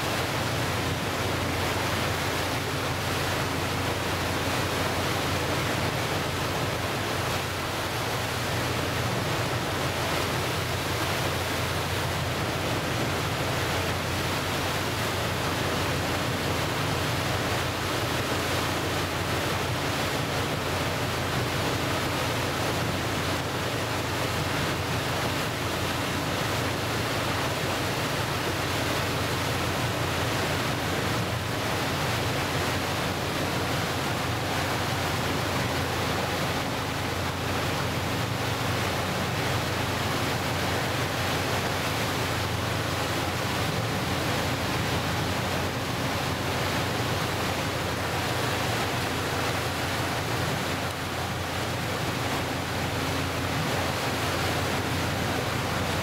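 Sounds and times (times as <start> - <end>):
choppy waves: 0.0 - 56.0.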